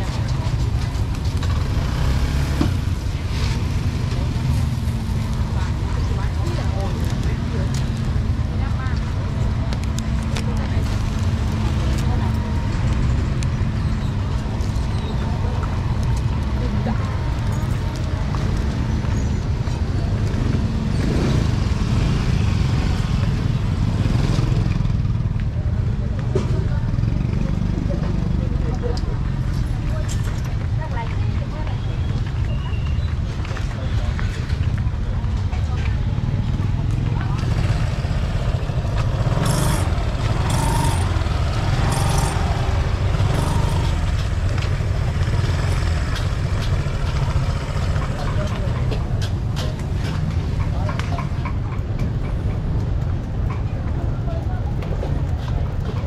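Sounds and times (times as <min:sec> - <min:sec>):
motorbikes passing: 0:00.0 - 0:56.0.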